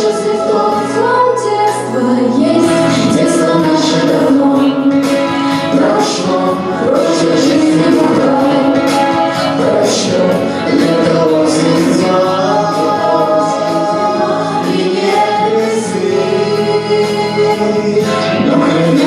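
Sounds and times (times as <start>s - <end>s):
choir singing: 0.0s - 19.0s.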